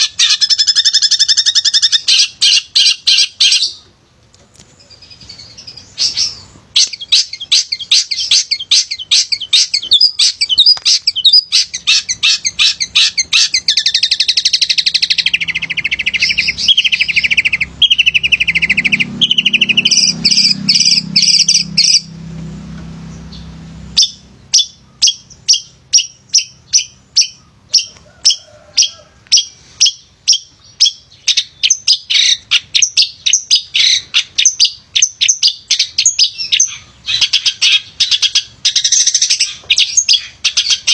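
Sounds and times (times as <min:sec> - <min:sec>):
shrike singing rapid warbling song: 0:00.0 - 0:04.1, 0:04.7 - 0:40.9.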